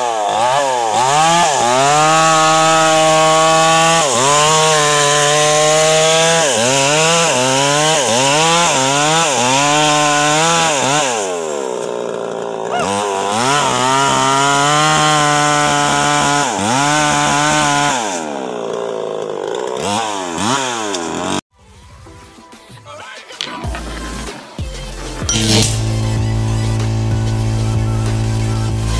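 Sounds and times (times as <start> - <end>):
chainsaw cutting wood: 0.0 - 21.4, 23.4 - 28.9.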